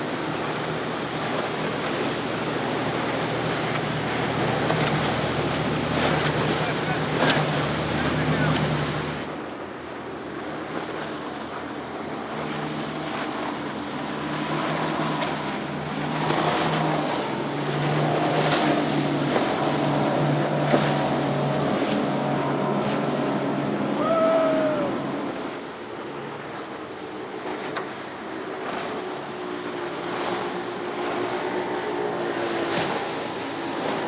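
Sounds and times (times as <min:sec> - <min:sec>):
motorboat engine running: 0:00.0 - 0:34.0
water noise: 0:00.0 - 0:34.0
wind: 0:00.0 - 0:34.0.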